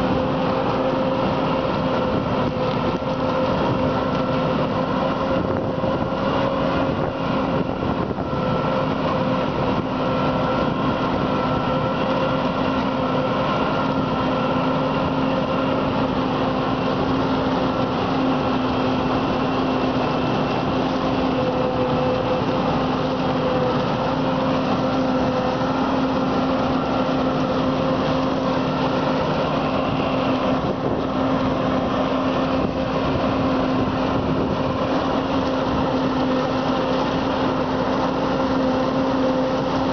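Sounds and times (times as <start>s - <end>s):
forage harvester drone: 0.0s - 39.9s.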